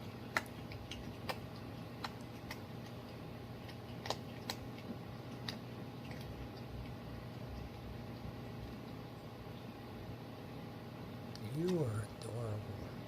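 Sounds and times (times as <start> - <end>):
animal crunching food: 0.0 - 9.3, 11.4 - 12.6
faint room hum: 0.0 - 13.0.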